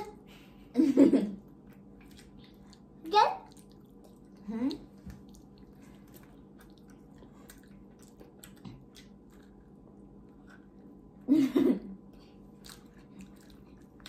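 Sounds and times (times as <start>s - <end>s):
children chewing: 1.4s - 14.0s.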